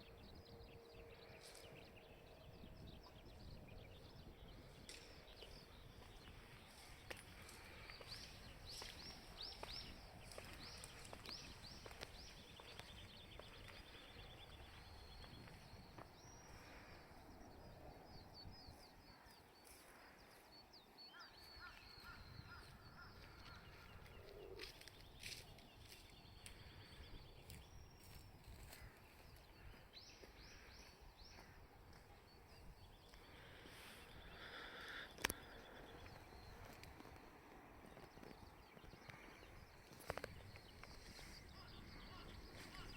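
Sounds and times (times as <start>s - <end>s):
birds chirping and trilling: 0.1s - 42.9s.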